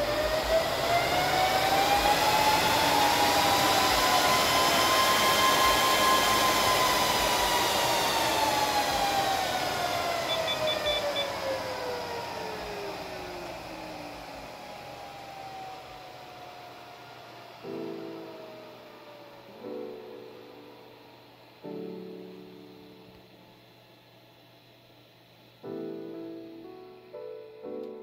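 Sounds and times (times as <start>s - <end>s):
server cooling fans whining: 0.0s - 28.0s.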